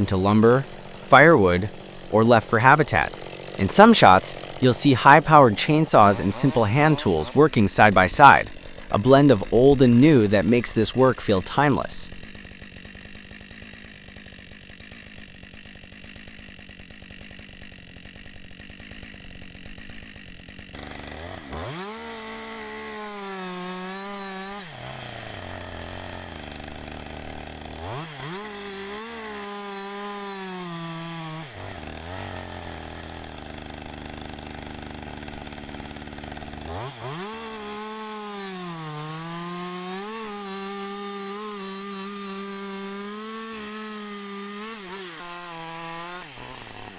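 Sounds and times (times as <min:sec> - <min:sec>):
chainsaw revving and cutting wood: 0:00.0 - 0:46.9.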